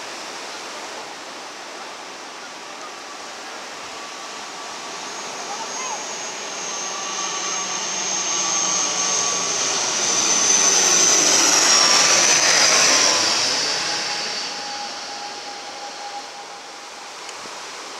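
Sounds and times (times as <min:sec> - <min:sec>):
turboprop airliner flying overhead: 0:00.1 - 0:17.9
high engine whine: 0:01.1 - 0:17.9.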